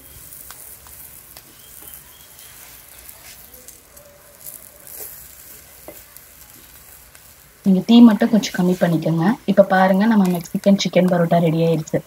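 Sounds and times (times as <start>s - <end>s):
flatbread sizzling on a griddle: 0.0s - 12.0s.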